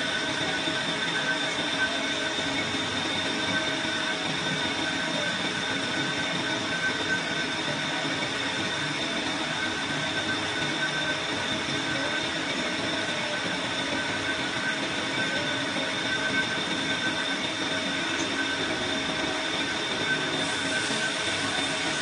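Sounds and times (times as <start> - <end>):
lathe cutting steel pipe: 0.0 - 22.0.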